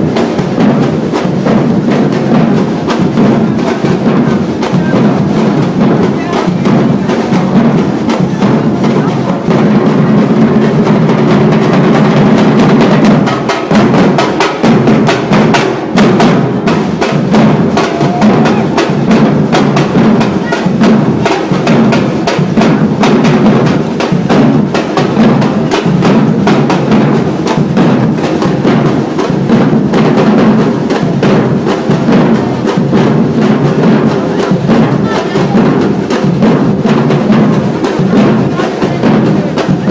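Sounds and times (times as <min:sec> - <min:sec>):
deep bass drums: 0:00.0 - 0:39.9
sharp wood-block strikes: 0:00.0 - 0:39.9.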